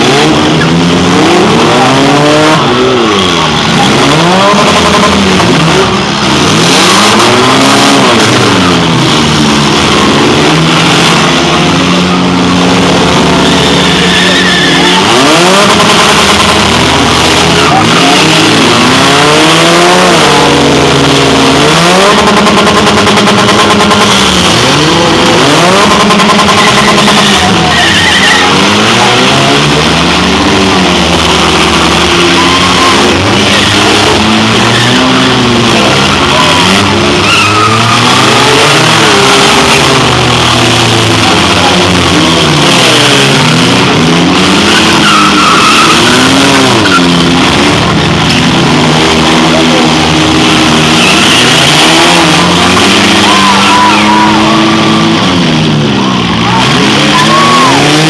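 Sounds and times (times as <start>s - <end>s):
car engines revving: 0.0s - 58.0s
tires spinning: 0.0s - 58.0s.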